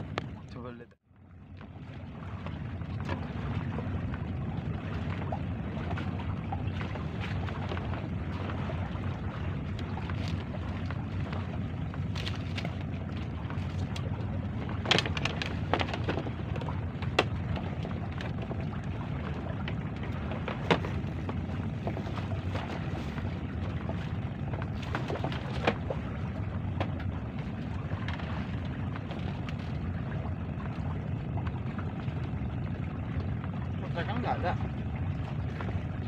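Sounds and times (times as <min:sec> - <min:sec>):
sea: 0:00.0 - 0:36.0
wind: 0:00.0 - 0:36.0.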